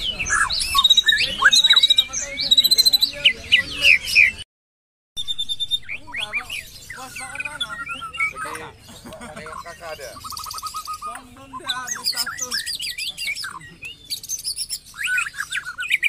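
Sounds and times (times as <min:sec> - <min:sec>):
bird singing whistles and trills: 0:00.0 - 0:04.4, 0:05.2 - 0:16.0.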